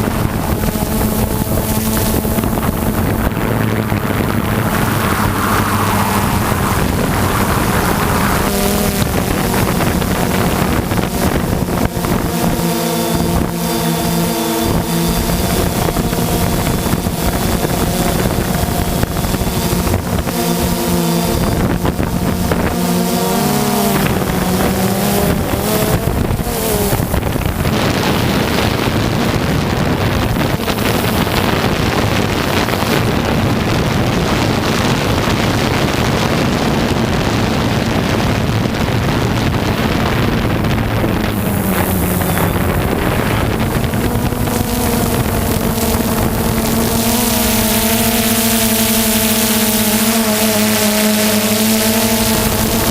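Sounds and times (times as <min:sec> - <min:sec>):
propeller aircraft engines droning: 0:00.0 - 0:52.9
wind noise on microphone: 0:00.0 - 0:52.9.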